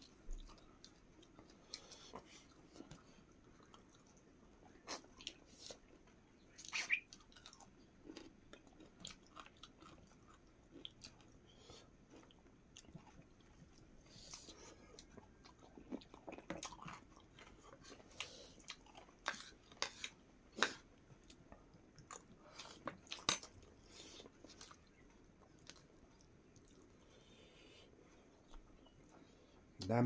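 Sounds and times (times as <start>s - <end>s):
people chewing: 0.0s - 29.8s.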